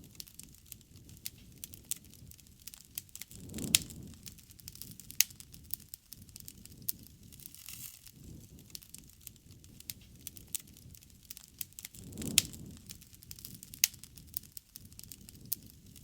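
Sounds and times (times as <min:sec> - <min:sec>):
campfire crackling and popping: 0:00.0 - 0:16.0
low rush of flame: 0:00.0 - 0:16.0.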